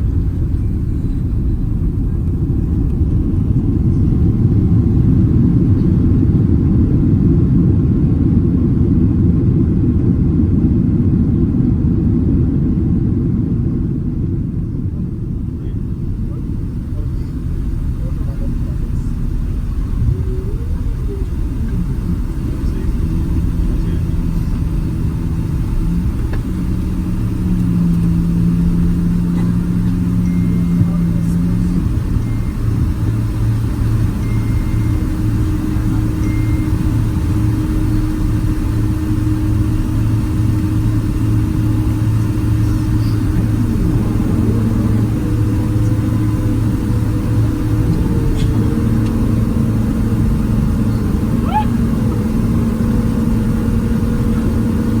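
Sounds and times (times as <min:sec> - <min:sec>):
engine hums shifting in pitch: 0:00.0 - 0:55.0
jet engines and airflow rumble: 0:00.0 - 0:55.0.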